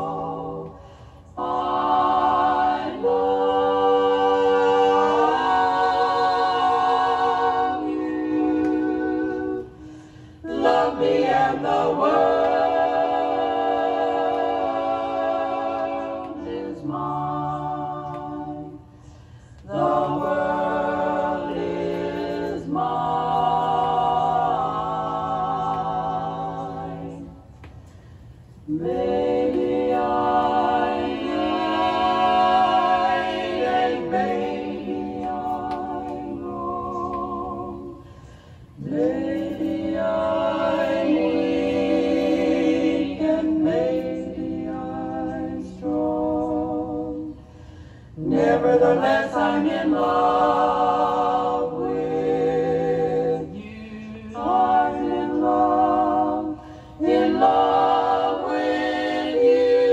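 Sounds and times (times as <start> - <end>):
female vocal quartet singing: 0.0 - 59.9.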